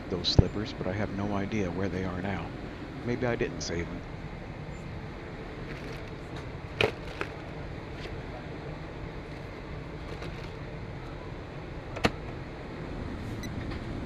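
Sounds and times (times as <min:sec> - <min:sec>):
airliner cabin air hum: 0:00.0 - 0:14.0.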